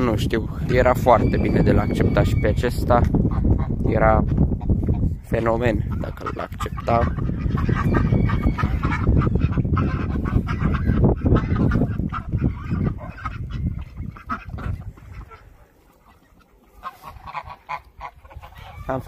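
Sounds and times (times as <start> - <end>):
geese honking: 0.6 - 3.8, 4.6 - 19.0.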